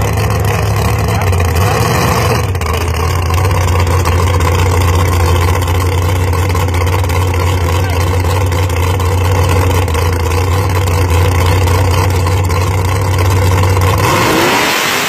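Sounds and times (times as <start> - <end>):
truck engine running loud: 0.0 - 15.0.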